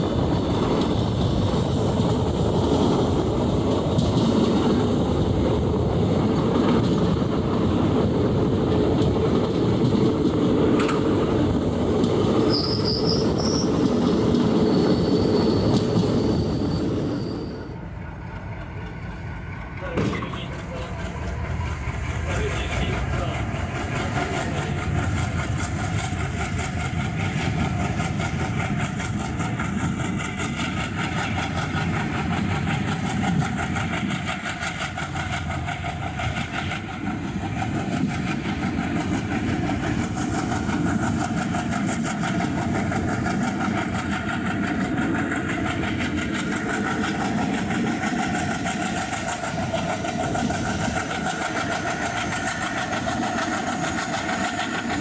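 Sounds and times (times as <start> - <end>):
diesel train engine drone: 0.0 - 55.0.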